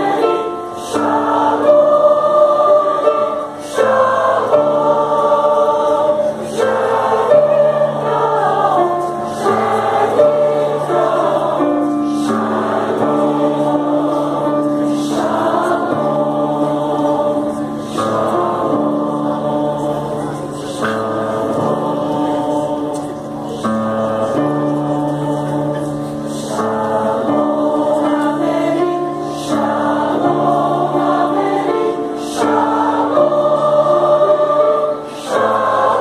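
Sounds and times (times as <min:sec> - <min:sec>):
mixed choir singing in harmony: 0:00.0 - 0:36.0.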